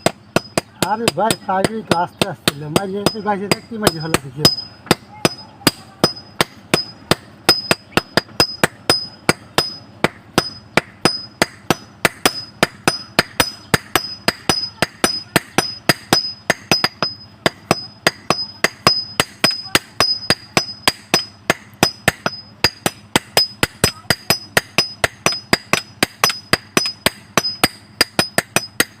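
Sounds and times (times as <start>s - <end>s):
hammer striking metal on anvil: 0.0s - 29.0s.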